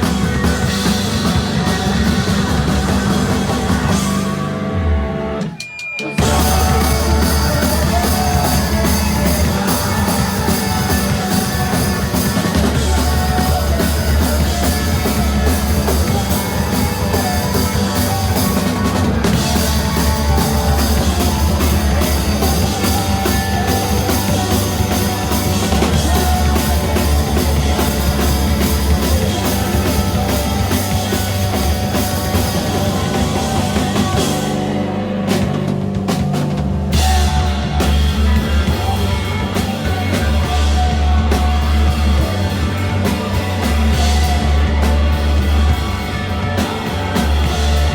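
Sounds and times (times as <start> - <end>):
live rock band playing: 0.0 - 47.9
bass drum: 6.2 - 47.9.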